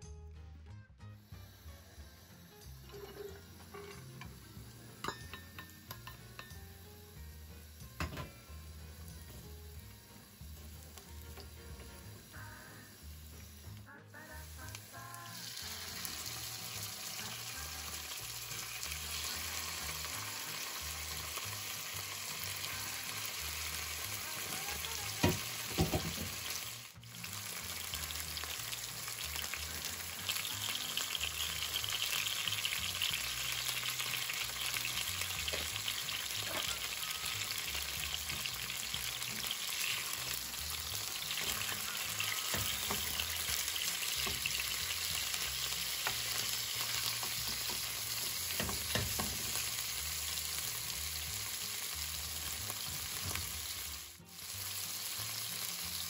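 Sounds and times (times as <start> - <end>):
meat sizzling in frying pan: 1.2 - 56.0.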